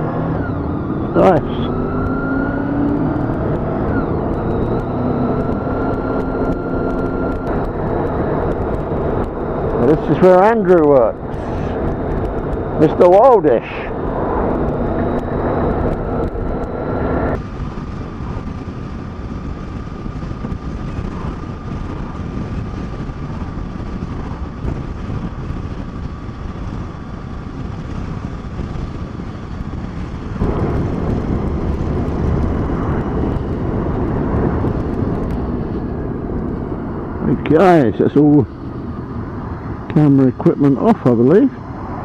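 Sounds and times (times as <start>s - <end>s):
motorcycle engine rumble: 0.0s - 42.0s
wind rush: 0.0s - 42.0s.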